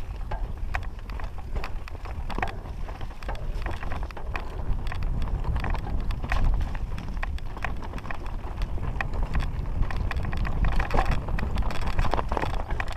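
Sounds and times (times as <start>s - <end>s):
bike rattling: 0.0s - 12.9s
bike tyres clattering over stones: 0.0s - 12.9s
wind rumbling on microphone: 0.0s - 12.9s.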